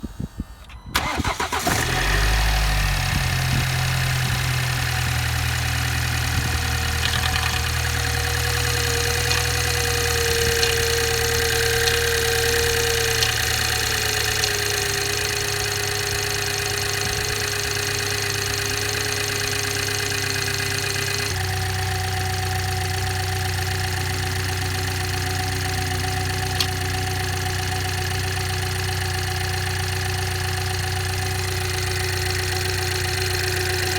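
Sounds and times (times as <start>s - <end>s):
steady engine whine: 0.0s - 27.9s
starter motor cranking: 0.9s - 33.9s
car engine idling: 1.0s - 33.9s.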